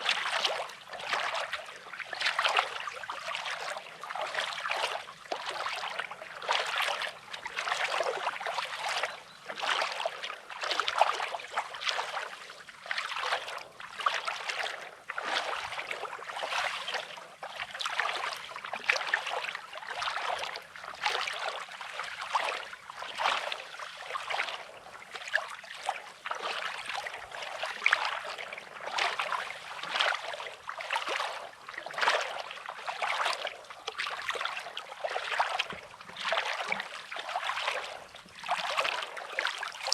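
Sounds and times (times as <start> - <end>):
small waves lapping on shore: 0.0 - 39.9.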